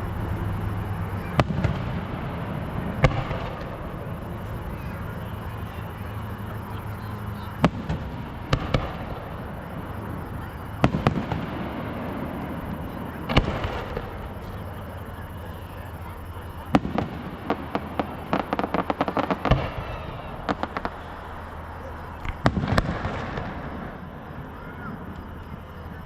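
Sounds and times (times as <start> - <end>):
fireworks bangs: 0.0 - 26.0
steady background noise: 0.0 - 26.0.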